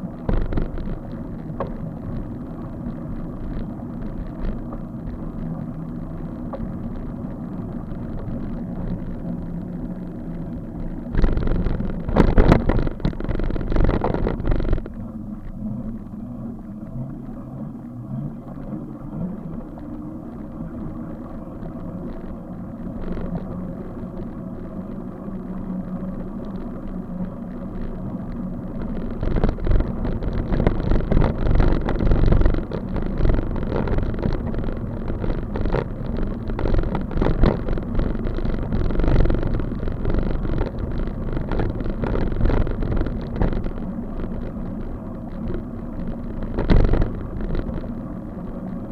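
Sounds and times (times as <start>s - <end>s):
wind buffeting microphone: 0.0s - 16.1s, 18.8s - 48.9s
road rumble: 0.0s - 48.9s.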